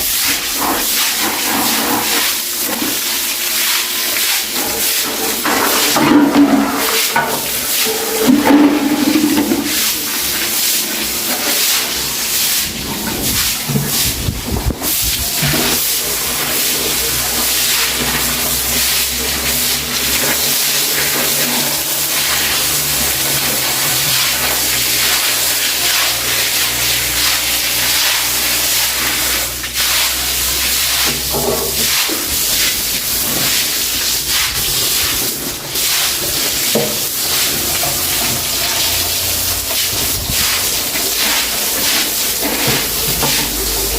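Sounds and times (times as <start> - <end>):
broom scrubbing wet floor: 0.0 - 43.9.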